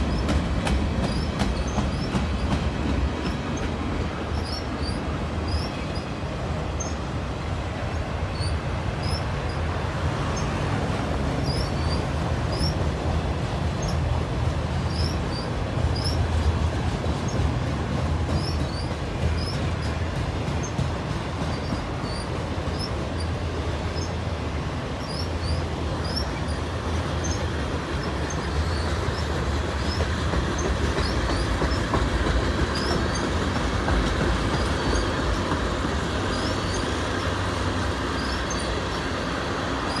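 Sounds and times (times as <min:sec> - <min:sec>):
freight train rumbling on rails: 0:00.0 - 0:40.0.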